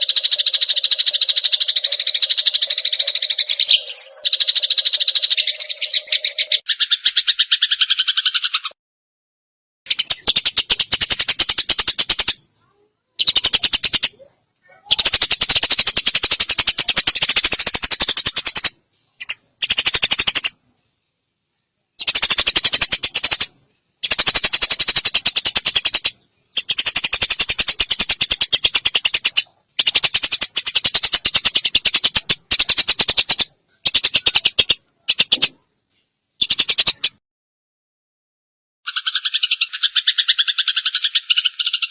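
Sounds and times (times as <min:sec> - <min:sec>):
sparrows chattering: 0:00.0 - 0:08.8, 0:09.9 - 0:20.6, 0:22.0 - 0:35.6, 0:36.4 - 0:37.2, 0:38.9 - 0:41.9.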